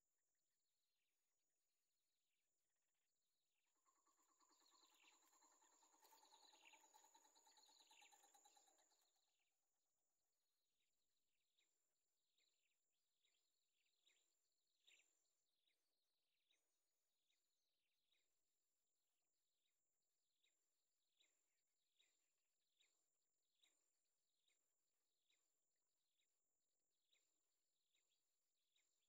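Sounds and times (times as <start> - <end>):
faint ticks and chirps: 0.0 - 29.0.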